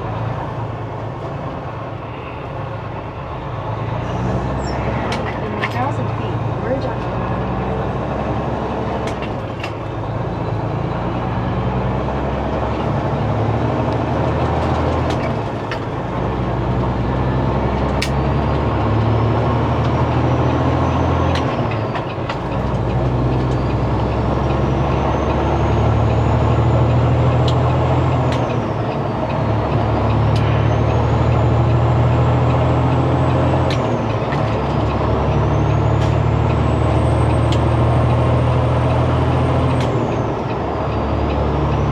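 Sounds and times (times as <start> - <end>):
diesel truck engine accelerating: 0.0 - 41.9.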